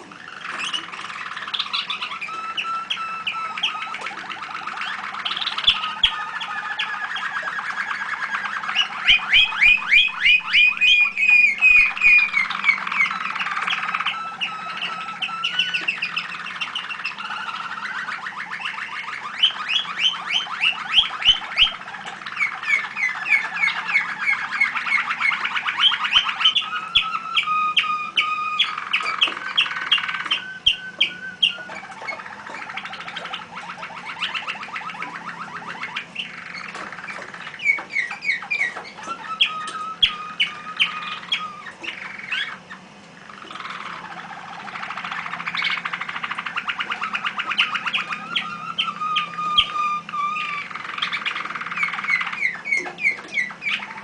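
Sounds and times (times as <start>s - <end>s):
canaries singing trills: 0.0s - 54.0s.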